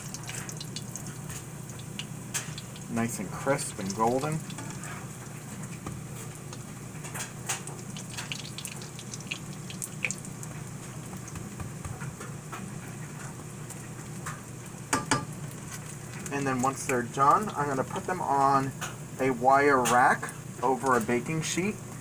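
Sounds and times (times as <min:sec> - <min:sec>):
pancakes frying in hot oil: 0:00.0 - 0:22.0.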